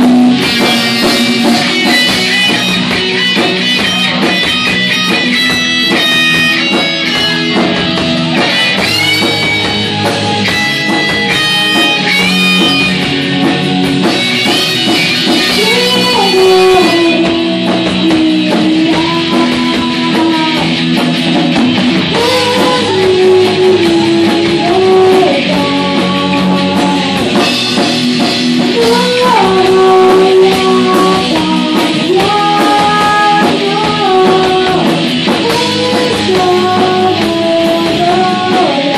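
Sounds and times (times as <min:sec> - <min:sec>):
drum kit: 0:00.0 - 0:38.9
electric guitars: 0:00.0 - 0:38.9
sliding lead guitar melody: 0:00.0 - 0:38.9.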